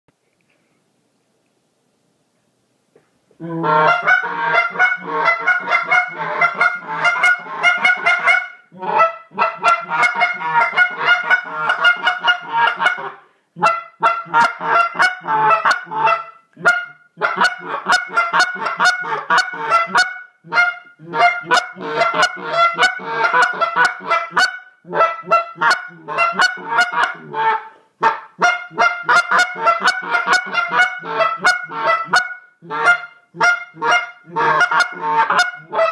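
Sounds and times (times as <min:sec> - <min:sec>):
goose call honks and clucks: 0:03.4 - 0:35.9.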